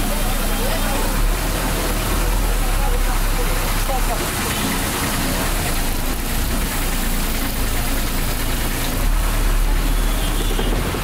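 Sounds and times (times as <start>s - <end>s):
bus diesel engine running: 0.0s - 11.0s
road noise: 0.0s - 11.0s.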